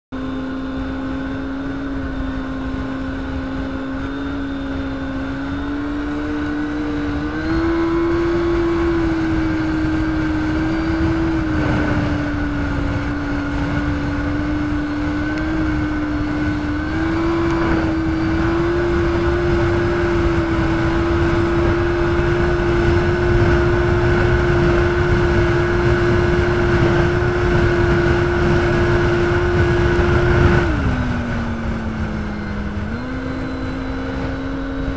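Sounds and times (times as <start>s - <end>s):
low rushing noise: 0.1s - 34.9s
snowmobile engine droning: 0.1s - 34.9s.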